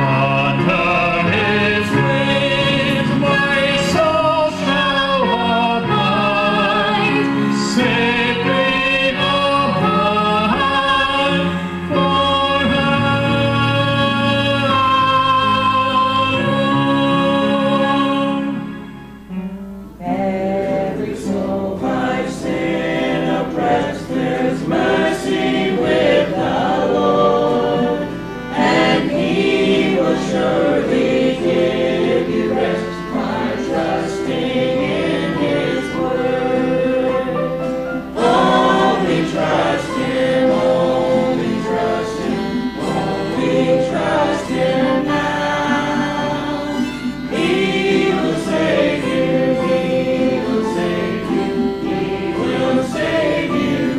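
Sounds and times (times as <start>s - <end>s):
choir singing a gospel hymn: 0.0s - 19.4s, 20.0s - 53.9s
instrumental accompaniment: 0.0s - 53.9s.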